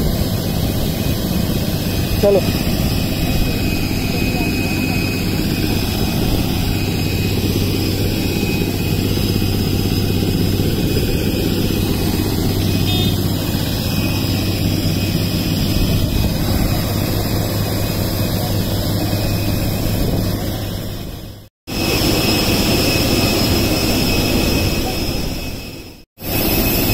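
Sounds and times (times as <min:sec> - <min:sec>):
high turbine whine: 0:00.0 - 0:26.9
low jet drone: 0:00.0 - 0:26.9.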